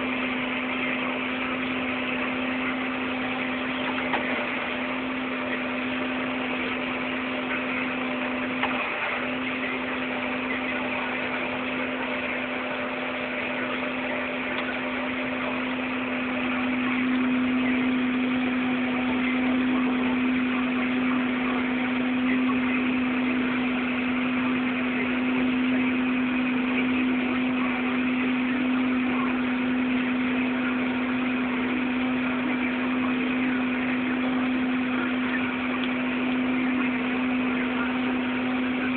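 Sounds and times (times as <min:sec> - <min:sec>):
constant hum: 0:00.0 - 0:38.9
machinery engine drone: 0:00.0 - 0:38.9.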